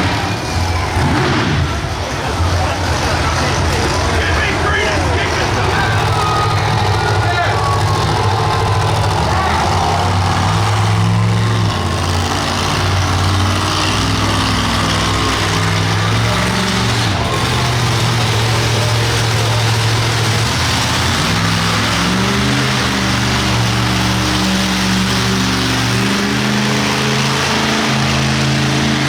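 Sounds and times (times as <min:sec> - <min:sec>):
arena crowd noise: 0:00.0 - 0:29.0
monster truck engine revving: 0:00.0 - 0:29.0.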